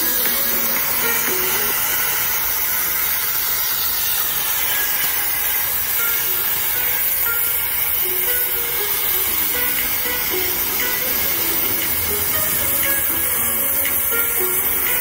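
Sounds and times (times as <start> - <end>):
plasma torch hissing: 0.0 - 15.0.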